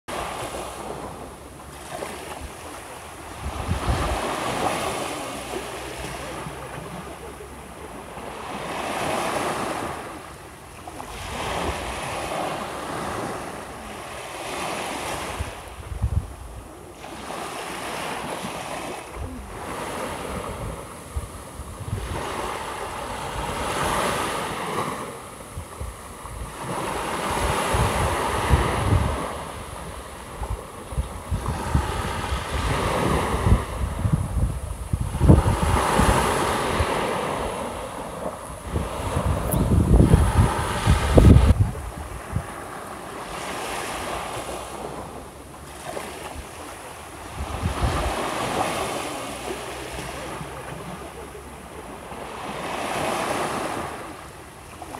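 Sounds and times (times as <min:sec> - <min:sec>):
small waves breaking on sand: 0:00.1 - 0:54.9
wind buffeting microphone: 0:00.6 - 0:49.6.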